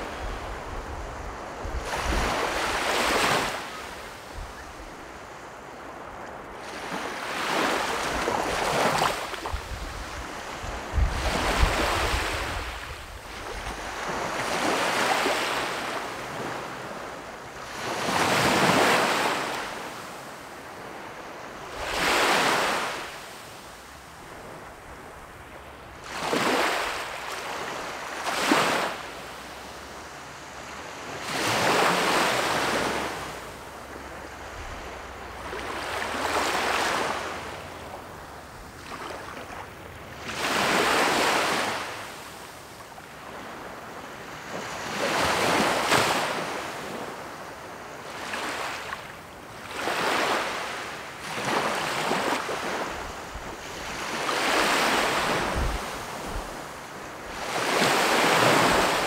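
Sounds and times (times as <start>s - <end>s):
small waves breaking on beach: 0.0s - 59.0s.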